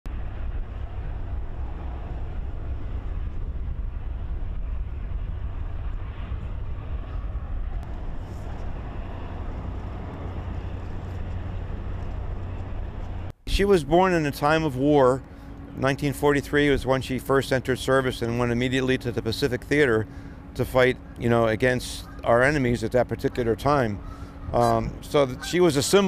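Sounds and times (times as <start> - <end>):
outdoor noise: 0.0 - 26.0
boat engines rumbling: 0.1 - 26.0.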